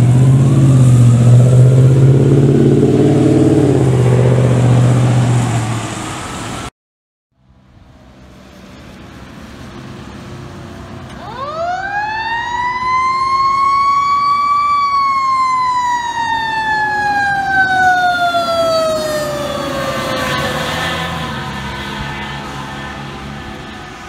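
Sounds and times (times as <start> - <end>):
fire engine siren wailing: 0.0 - 6.7, 11.0 - 24.0
traffic rumble: 0.0 - 6.7, 7.4 - 24.0.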